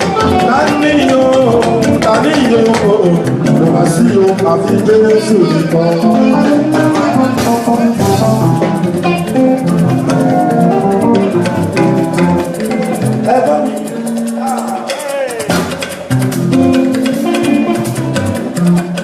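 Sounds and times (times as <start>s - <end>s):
church band playing gospel: 0.0s - 19.0s
drum kit: 0.0s - 19.0s
shakers: 0.0s - 19.0s.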